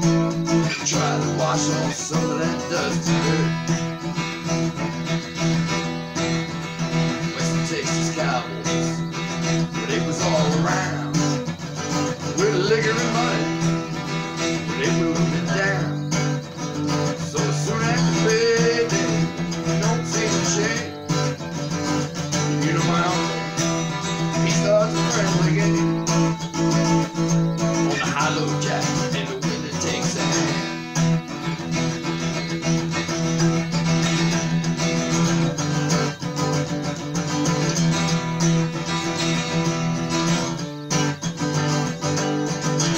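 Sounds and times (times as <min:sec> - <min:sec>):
acoustic guitar chords: 0:00.0 - 0:42.9.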